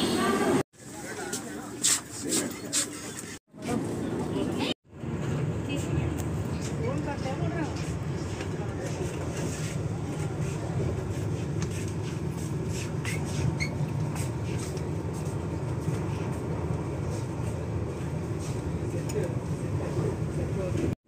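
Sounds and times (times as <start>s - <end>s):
train interior rumble: 3.6s - 21.0s.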